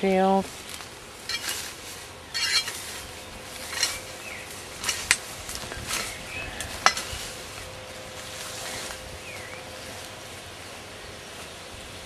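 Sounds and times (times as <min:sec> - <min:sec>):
grass rustling underfoot: 0:00.0 - 0:12.0.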